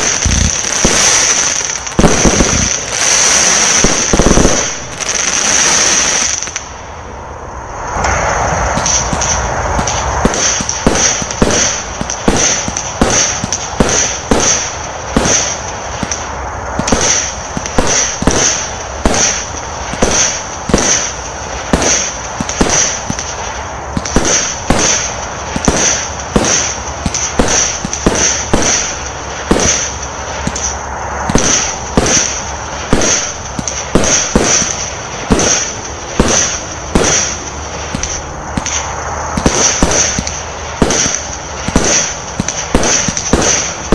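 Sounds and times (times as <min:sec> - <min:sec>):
firework shots banging: 0:00.0 - 0:06.8, 0:08.0 - 0:43.9.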